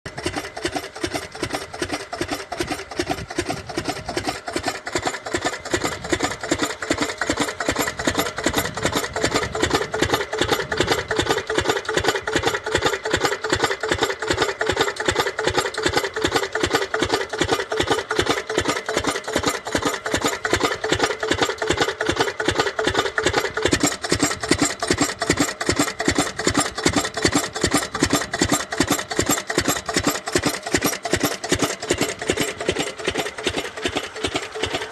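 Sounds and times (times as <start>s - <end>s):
diesel pump engine running: 0.1s - 34.9s.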